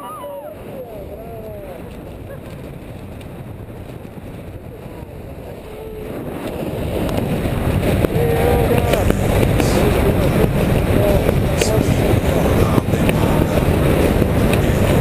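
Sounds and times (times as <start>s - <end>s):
faint voices: 0.0s - 2.8s, 4.3s - 15.0s
wind buffeting microphone: 0.0s - 15.0s.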